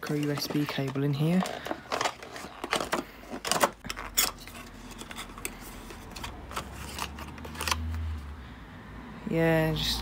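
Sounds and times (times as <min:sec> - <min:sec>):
plastic packaging clicks and scrapes: 0:00.0 - 0:08.1.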